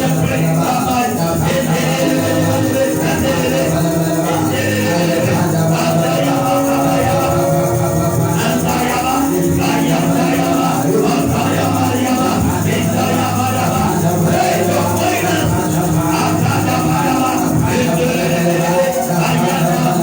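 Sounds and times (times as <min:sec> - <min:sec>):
many voices singing and praying: 0:00.0 - 0:20.0
shaken hand percussion: 0:00.0 - 0:20.0
sustained chords: 0:00.0 - 0:20.0.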